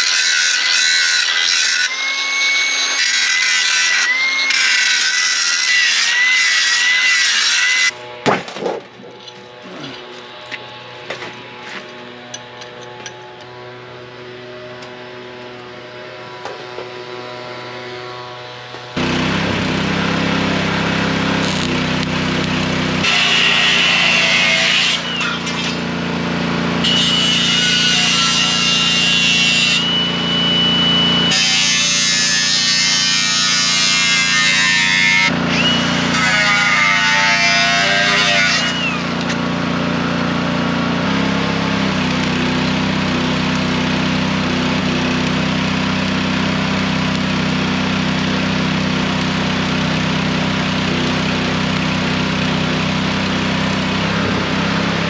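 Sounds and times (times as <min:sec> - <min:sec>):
angle grinder cutting sheet steel: 0:00.0 - 0:08.2, 0:09.0 - 0:55.0.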